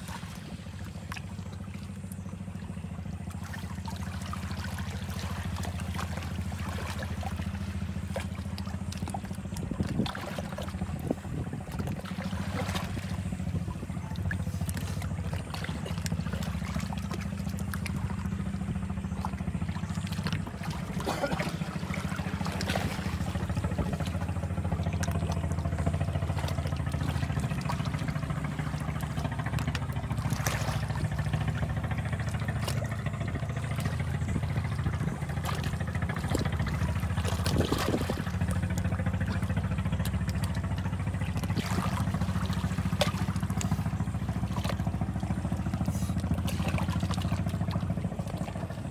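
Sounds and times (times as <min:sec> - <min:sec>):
engine humming: 0:00.0 - 0:48.9
water lapping: 0:00.0 - 0:48.9.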